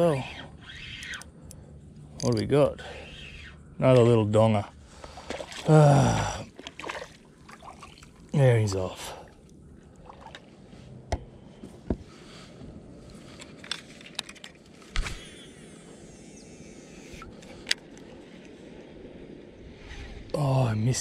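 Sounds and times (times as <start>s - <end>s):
hiss of water and wind: 0.0s - 21.0s.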